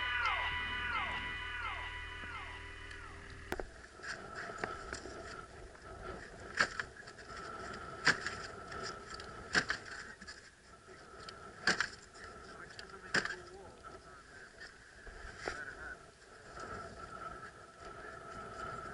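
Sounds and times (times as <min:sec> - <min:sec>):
faint steady high whine: 0:00.0 - 0:18.9.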